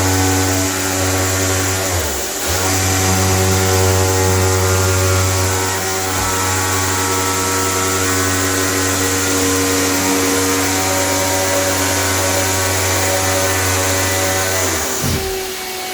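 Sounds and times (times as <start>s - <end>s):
electric motor humming: 0.0s - 15.9s.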